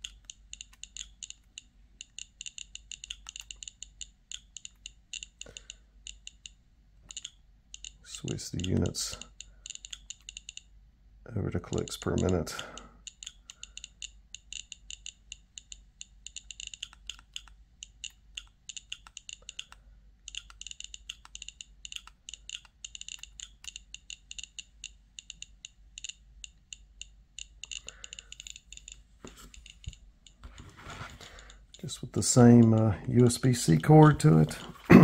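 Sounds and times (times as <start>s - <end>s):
radiation detector clicking: 0.0s - 10.7s, 11.6s - 34.7s.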